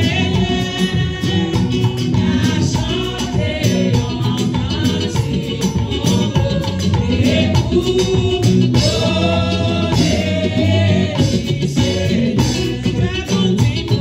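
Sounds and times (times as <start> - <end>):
singers joining in: 0.0 - 14.0
steady beat: 0.0 - 14.0
woman singing into microphone: 0.0 - 14.0.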